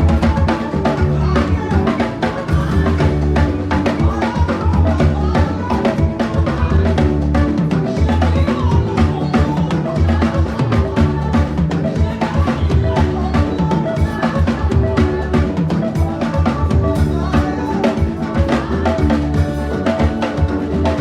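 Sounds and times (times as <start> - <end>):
bass line: 0.0 - 21.0
drums playing fast: 0.0 - 21.0.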